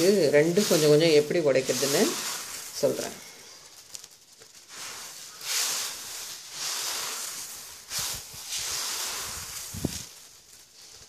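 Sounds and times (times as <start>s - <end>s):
beans rustling on steel plate: 0.0s - 11.0s.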